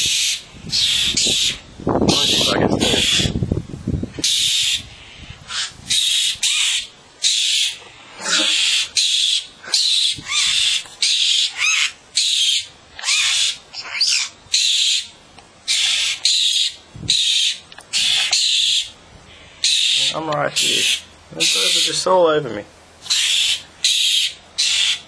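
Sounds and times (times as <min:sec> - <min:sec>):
bird giving harsh scolding calls: 0:00.0 - 0:03.4, 0:04.2 - 0:22.2, 0:23.0 - 0:25.0.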